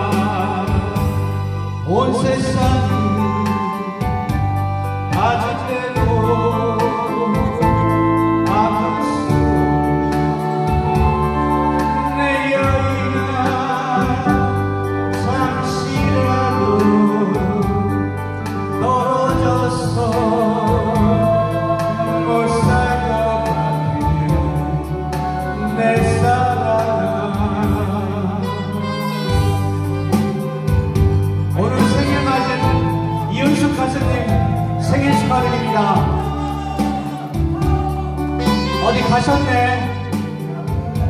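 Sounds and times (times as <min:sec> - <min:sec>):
instrumental music with bass beat: 0:00.0 - 0:41.0
man singing into microphone: 0:00.0 - 0:41.0.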